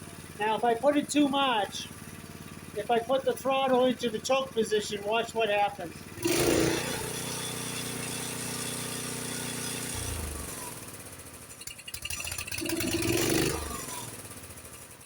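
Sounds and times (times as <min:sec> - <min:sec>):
engine sputters: 0:00.0 - 0:15.0
snowblower engine running: 0:00.0 - 0:15.0.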